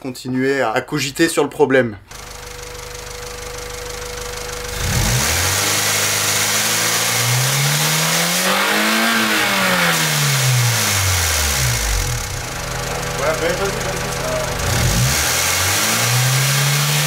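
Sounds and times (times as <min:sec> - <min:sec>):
car engine revving: 0:02.1 - 0:17.0
engine diesel-like clatter: 0:02.1 - 0:17.0.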